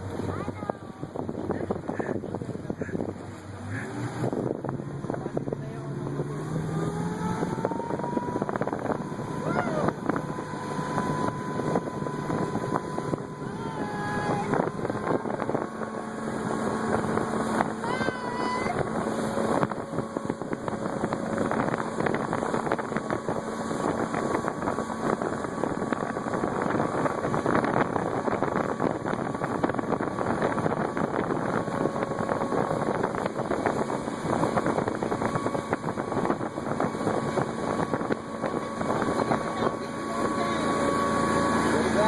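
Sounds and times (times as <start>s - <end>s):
motorboat engine running: 0.0s - 42.0s
wind on microphone: 0.0s - 42.0s.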